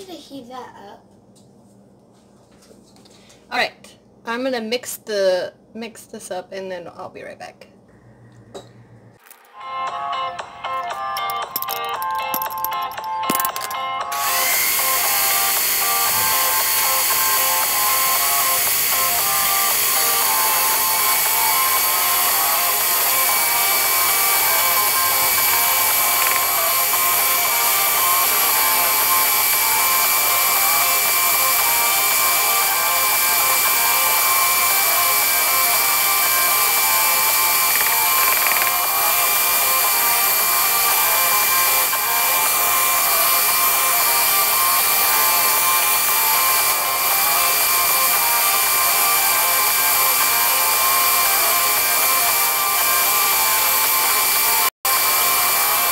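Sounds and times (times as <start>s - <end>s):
electric mixer whirring: 11.1s - 55.9s.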